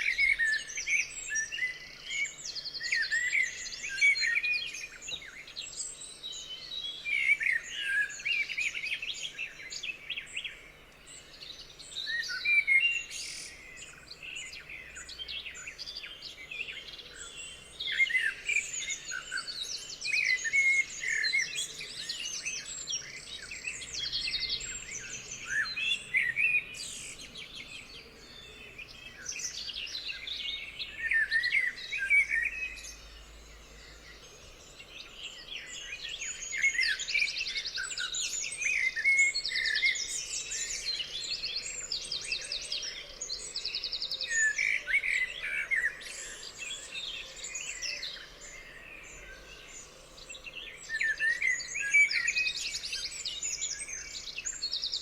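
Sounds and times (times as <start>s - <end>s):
songbirds singing and calling: 0.0s - 55.0s.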